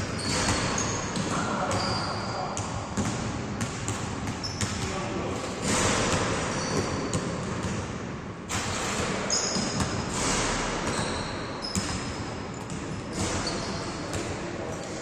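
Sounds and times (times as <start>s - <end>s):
sneaker squeaks: 0.0s - 3.2s, 4.2s - 7.8s, 8.9s - 15.0s
basketballs bouncing on court: 0.0s - 15.0s.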